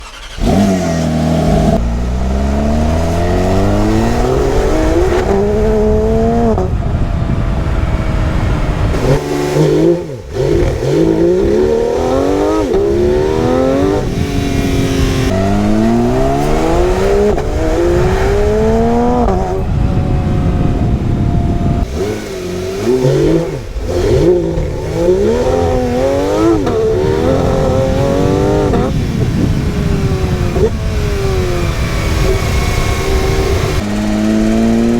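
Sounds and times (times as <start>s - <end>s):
car engine revving hard: 0.0s - 34.9s.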